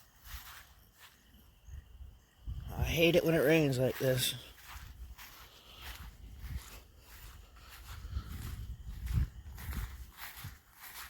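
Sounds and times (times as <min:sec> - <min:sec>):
footsteps on muddy ground: 0:00.0 - 0:01.6, 0:02.5 - 0:11.0.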